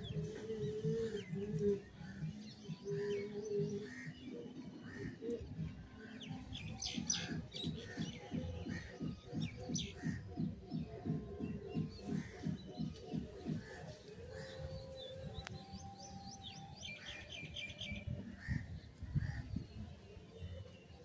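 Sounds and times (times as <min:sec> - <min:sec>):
background music: 0:00.0 - 0:21.0
small birds chirping: 0:00.0 - 0:21.0.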